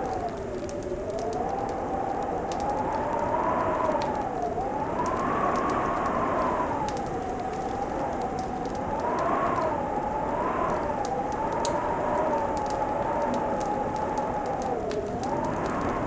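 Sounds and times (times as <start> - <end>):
fireplace fire crackling: 0.0 - 16.0
howling wind: 0.0 - 16.0.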